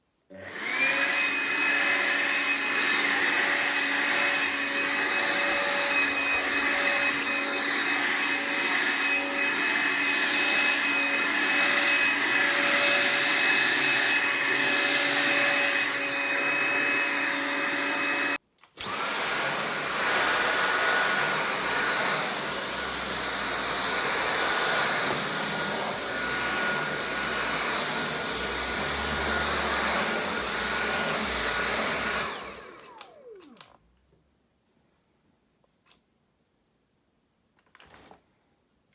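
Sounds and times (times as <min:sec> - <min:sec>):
stick vacuum cleaner whining: 0:00.3 - 0:33.9
higher-pitched vacuum whine: 0:00.4 - 0:33.6.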